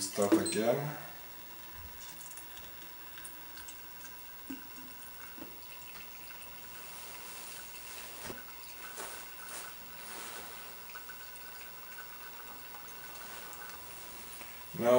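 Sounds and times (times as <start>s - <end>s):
fuel trickling and dripping: 1.2s - 14.9s.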